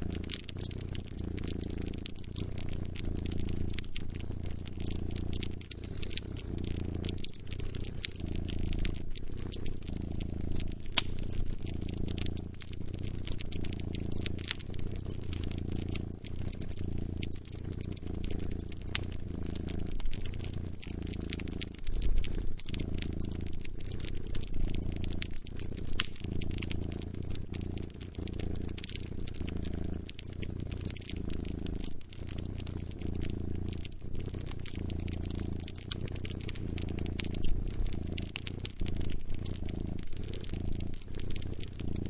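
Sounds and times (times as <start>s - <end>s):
cat purring: 0.0s - 42.0s
wood fire crackling: 0.0s - 42.0s.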